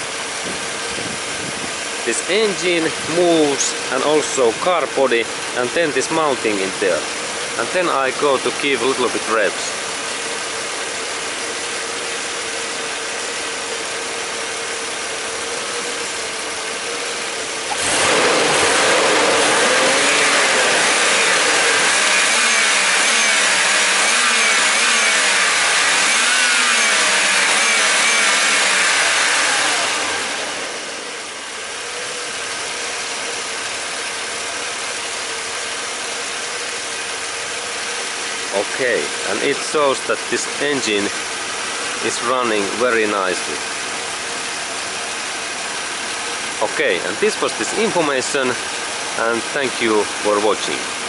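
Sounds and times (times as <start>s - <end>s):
car engine idling and revving: 0.0s - 51.0s.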